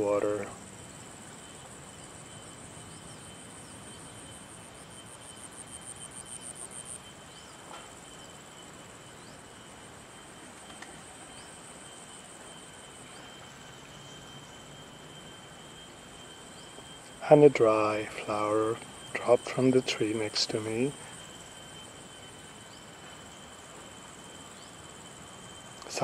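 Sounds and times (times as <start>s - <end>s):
insects droning high-pitched: 0.0s - 26.0s
pulsing insect trill: 0.0s - 26.0s.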